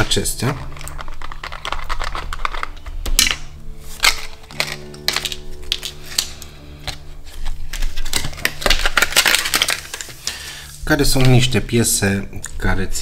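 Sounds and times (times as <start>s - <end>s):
plastic bags clicking and tapping: 0.0s - 11.6s
background music: 0.0s - 13.0s.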